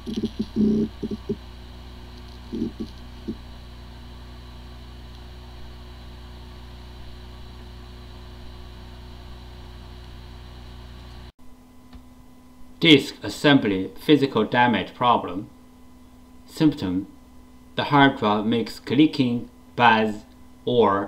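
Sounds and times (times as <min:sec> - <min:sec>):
hard drive humming: 0:00.0 - 0:14.0, 0:14.9 - 0:21.0.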